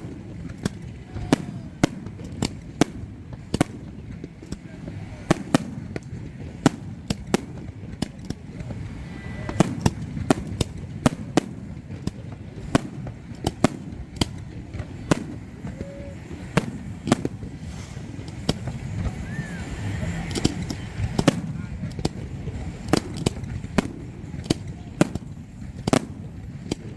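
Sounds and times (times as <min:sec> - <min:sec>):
fireworks exploding: 0:00.0 - 0:26.9
murmur of crowd: 0:00.0 - 0:26.9.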